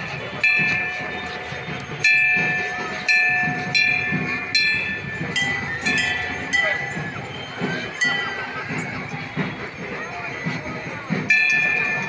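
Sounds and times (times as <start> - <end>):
crowd chatter: 0.0 - 12.0
metal bell ringing: 0.0 - 12.0.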